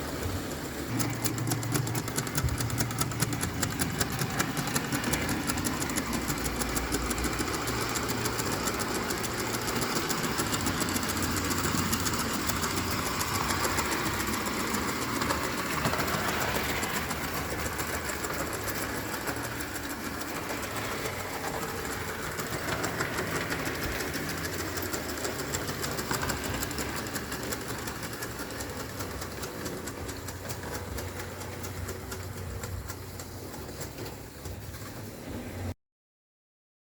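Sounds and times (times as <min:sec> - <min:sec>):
model steam locomotive chuffing: 0:00.0 - 0:35.7.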